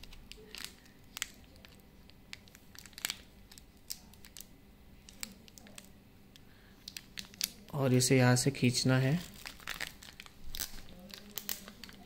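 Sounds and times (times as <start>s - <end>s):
plastic packet crinkling: 0.0s - 5.9s, 6.8s - 8.0s, 8.6s - 12.0s.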